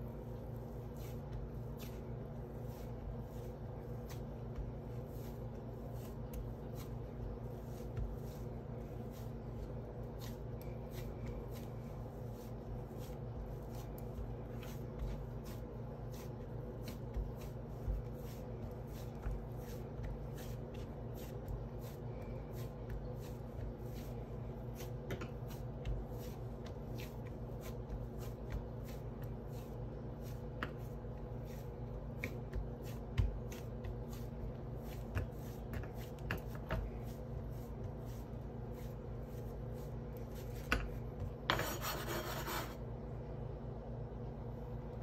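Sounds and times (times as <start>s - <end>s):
hands rubbing dough on board: 0.0s - 42.8s.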